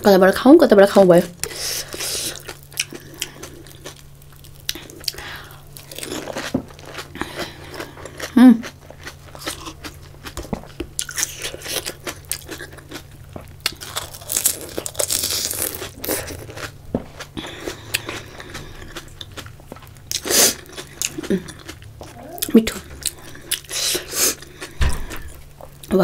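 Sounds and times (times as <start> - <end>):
crisp shells crunching in chewing: 1.4 - 25.9.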